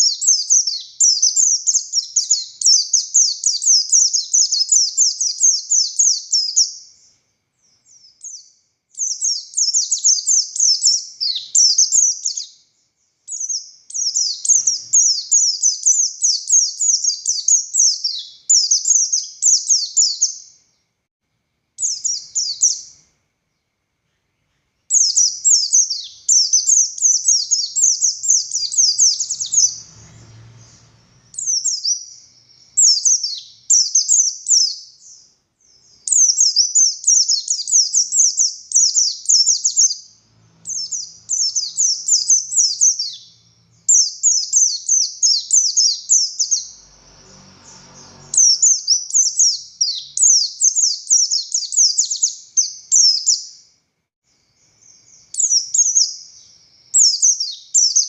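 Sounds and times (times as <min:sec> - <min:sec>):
bird singing high sweeping notes: 0:00.0 - 0:20.7, 0:21.8 - 0:23.2, 0:24.4 - 0:53.6.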